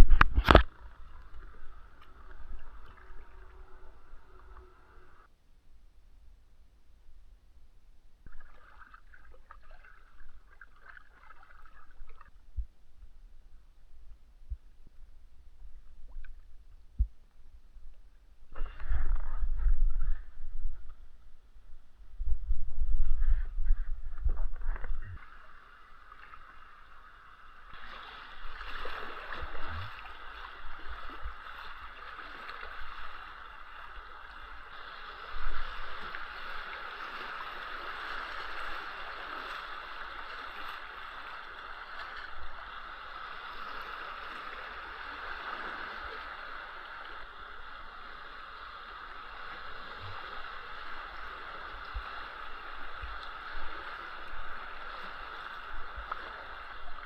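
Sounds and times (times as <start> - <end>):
flowing water: 0.0 - 5.3, 8.2 - 13.1, 14.8 - 57.0.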